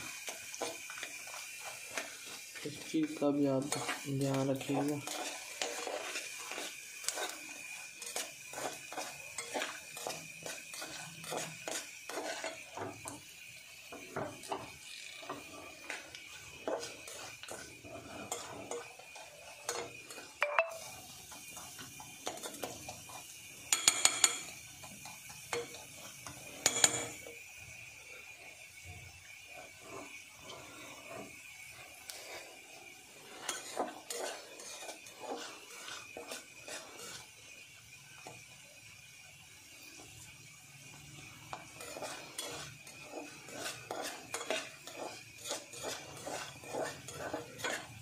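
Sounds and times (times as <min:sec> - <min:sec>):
faint sizzle: 0:00.0 - 0:48.0
metal utensil scraping a pan: 0:00.2 - 0:13.2, 0:13.9 - 0:27.4, 0:29.5 - 0:37.3, 0:41.6 - 0:48.0.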